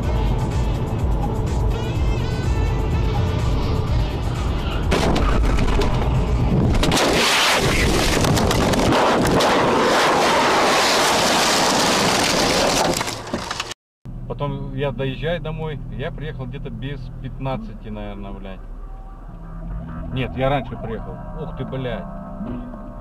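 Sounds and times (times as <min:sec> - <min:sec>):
car running with road rumble: 0:00.0 - 0:23.0.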